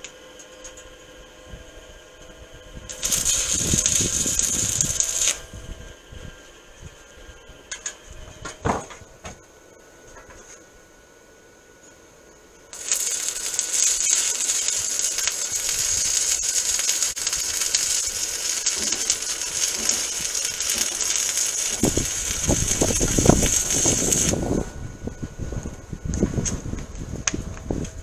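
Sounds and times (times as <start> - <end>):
arc welding crackle and sizzle: 0.0 - 10.6, 12.6 - 28.0.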